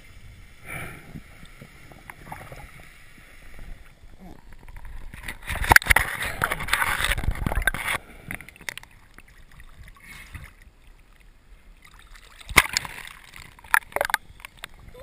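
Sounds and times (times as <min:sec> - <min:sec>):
water churning and bubbling: 0:00.0 - 0:15.0
water sounds at surface: 0:00.0 - 0:15.0.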